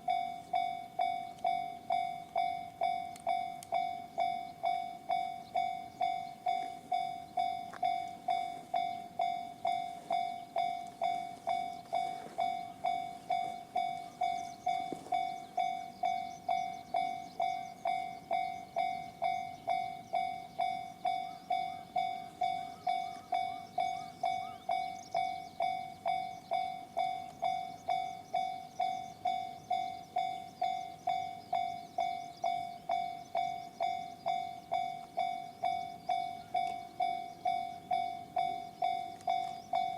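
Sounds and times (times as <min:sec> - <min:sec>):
level crossing bell dinging: 0:00.0 - 0:39.9.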